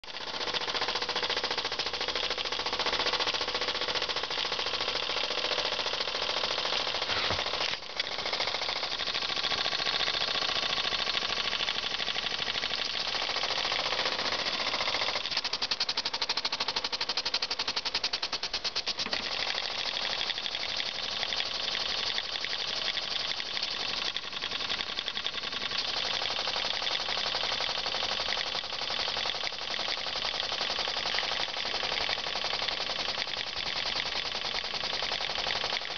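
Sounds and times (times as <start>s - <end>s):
small steam engine running: 0.0s - 35.9s.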